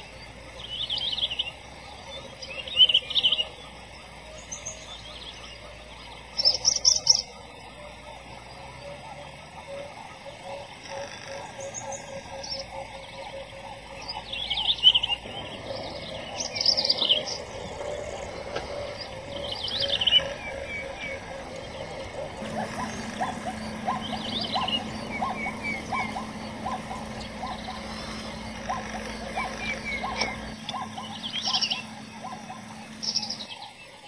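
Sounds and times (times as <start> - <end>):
birds chirping: 0.0 - 34.0
soft background bird calls: 0.0 - 34.0.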